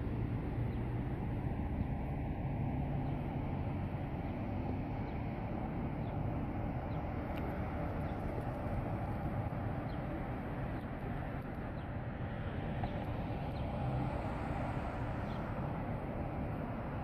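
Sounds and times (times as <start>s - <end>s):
vehicle rumble from inside: 0.0s - 17.0s.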